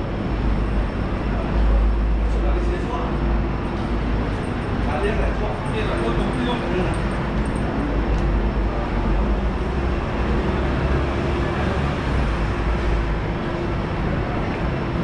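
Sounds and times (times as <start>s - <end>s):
constant hum: 0.0s - 15.0s
low vehicle rumble: 0.0s - 15.0s.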